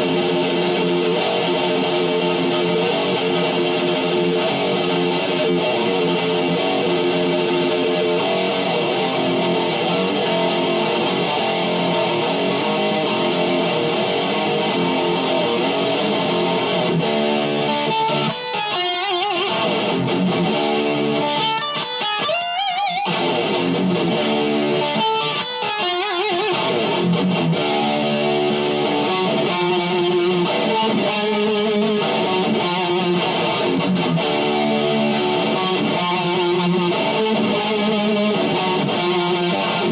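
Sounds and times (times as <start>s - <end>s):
electric guitar metal riffs: 0.0s - 39.9s.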